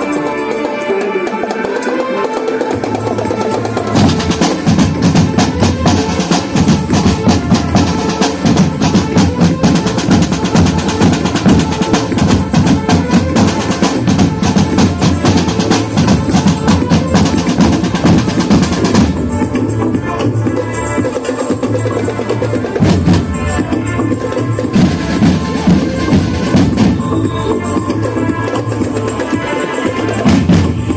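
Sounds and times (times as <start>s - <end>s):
drum line playing: 0.0s - 30.9s.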